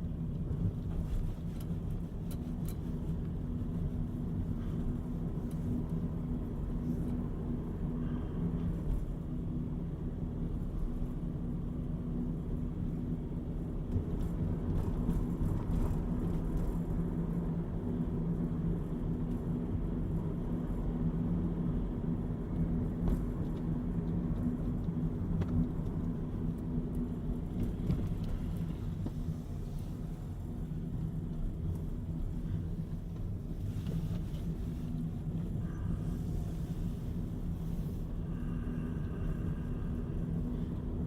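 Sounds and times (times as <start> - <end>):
car engine hum: 0.0 - 41.0
road noise rumble: 0.0 - 41.0.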